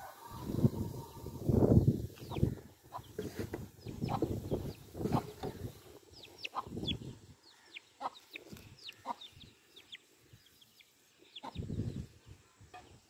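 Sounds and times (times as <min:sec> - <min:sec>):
chicks peeping: 0:00.3 - 0:12.1.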